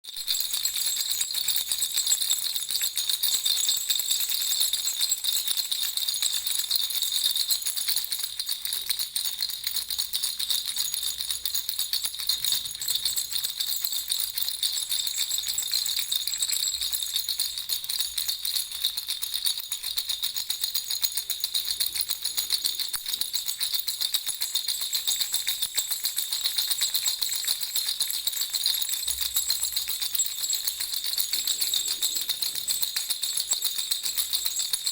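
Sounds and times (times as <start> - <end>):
baby rattle shaking: 0.0 - 34.9.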